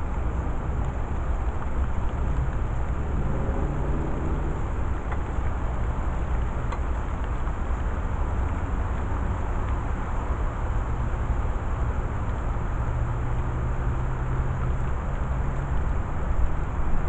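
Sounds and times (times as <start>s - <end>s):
faint engine hum: 0.0s - 17.0s
low vehicle rumble: 0.0s - 17.0s.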